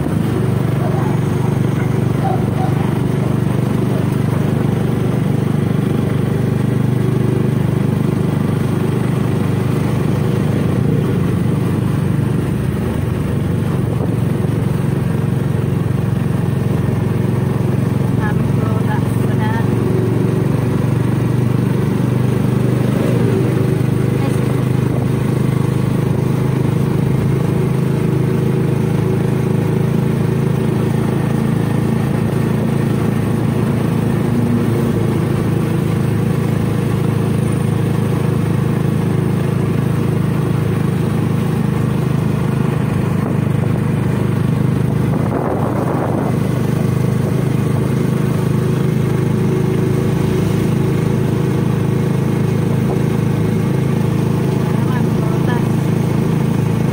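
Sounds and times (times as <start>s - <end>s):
vehicle engine drone: 0.0s - 56.9s.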